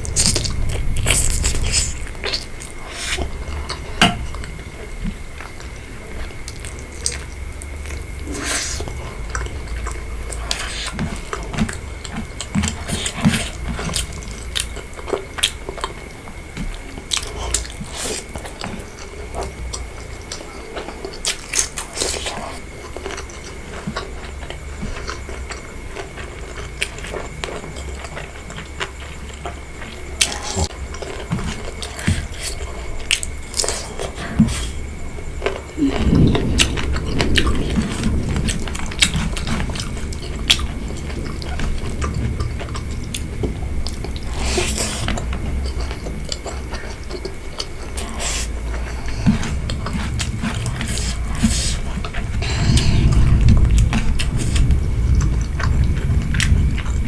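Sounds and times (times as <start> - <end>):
close chewing with sharp clicks: 5.1 - 57.0.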